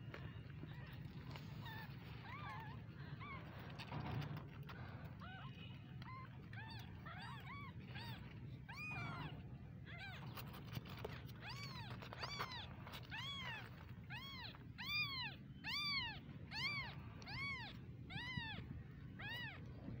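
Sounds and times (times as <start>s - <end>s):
kittens mewing: 0.0s - 20.0s.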